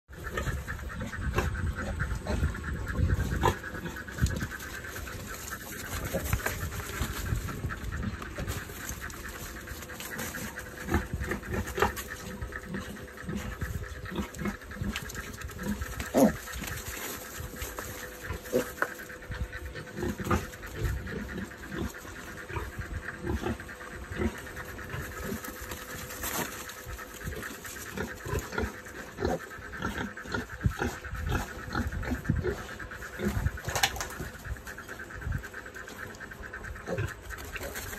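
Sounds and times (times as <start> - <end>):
pigs grunting: 0.1 - 37.9.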